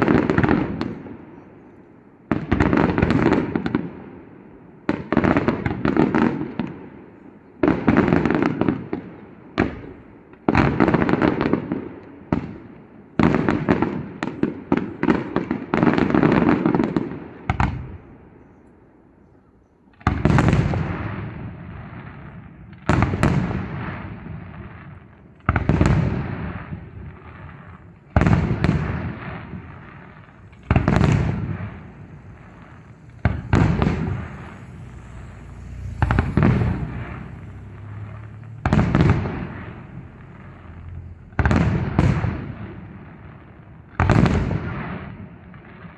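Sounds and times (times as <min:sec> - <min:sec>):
crackling firework tails: 0:00.0 - 0:45.9
fireworks bursting with echo: 0:00.0 - 0:45.9
deep firework booms: 0:02.3 - 0:04.2, 0:04.8 - 0:07.0, 0:07.6 - 0:18.1, 0:20.0 - 0:45.9.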